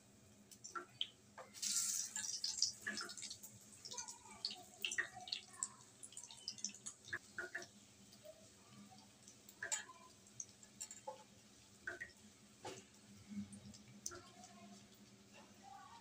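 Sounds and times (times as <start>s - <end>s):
food frying in hot oil: 0.0s - 16.0s
spatula turning food in oil: 0.5s - 16.0s.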